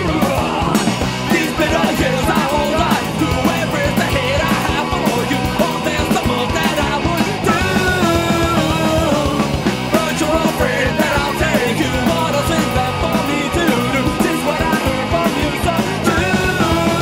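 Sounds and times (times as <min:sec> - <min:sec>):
driving drum hits: 0:00.0 - 0:17.0
person singing lead vocal: 0:00.0 - 0:17.0
pop-punk rock song: 0:00.0 - 0:17.0.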